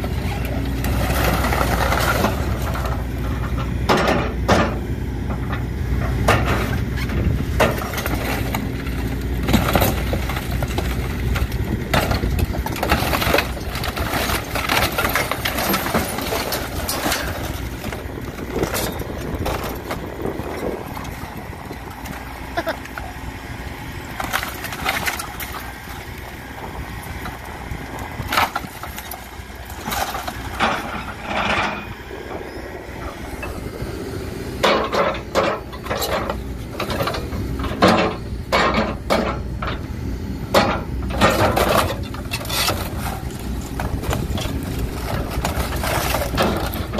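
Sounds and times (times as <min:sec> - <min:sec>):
metal and wood cracking and crashing: 0:00.0 - 0:04.8, 0:06.2 - 0:23.2, 0:24.0 - 0:31.9, 0:34.6 - 0:39.8, 0:40.5 - 0:46.9
excavator diesel engine running: 0:00.0 - 0:46.9.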